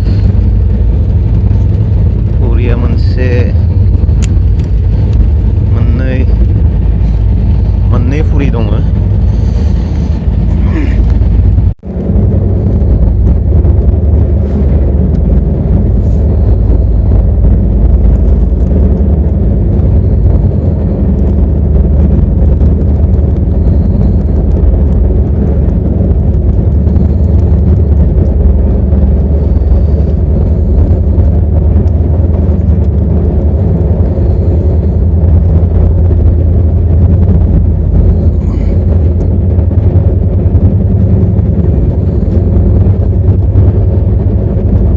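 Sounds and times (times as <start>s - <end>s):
vehicle rumble from on board: 0.0s - 44.9s.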